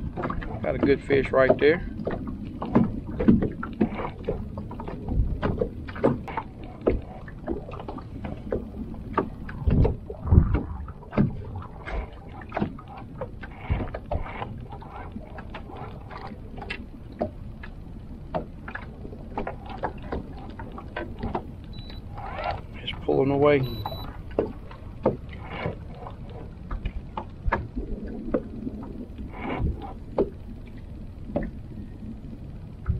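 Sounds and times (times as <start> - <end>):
clicks and knocks on a boat: 0.0 - 28.5, 29.2 - 31.6
steady low rumble: 0.0 - 32.9.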